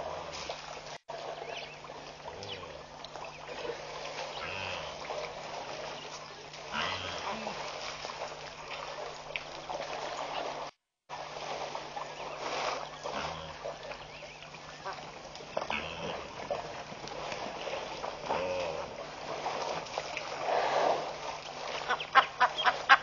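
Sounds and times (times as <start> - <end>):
water splashing and trickling: 0.0 - 23.0.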